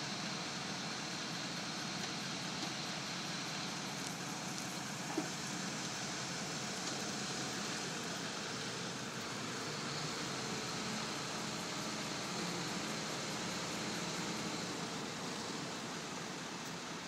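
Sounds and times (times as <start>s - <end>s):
road hiss: 0.0s - 17.0s
vehicle engine: 0.0s - 17.0s.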